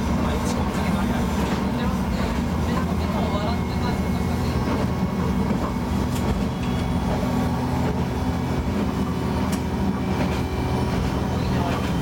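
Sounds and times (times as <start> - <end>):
diesel railcar engine idling: 0.0 - 12.0.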